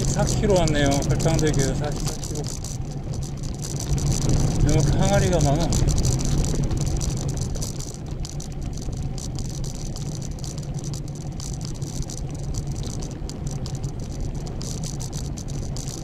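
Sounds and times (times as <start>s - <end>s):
bicycle rattling and ticking: 0.0s - 16.0s
low rumble: 0.0s - 16.0s.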